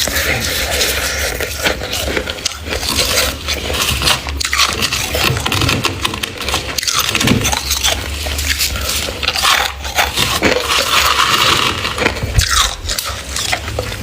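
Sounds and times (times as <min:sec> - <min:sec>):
frost crunching and scraping: 0:00.0 - 0:14.0.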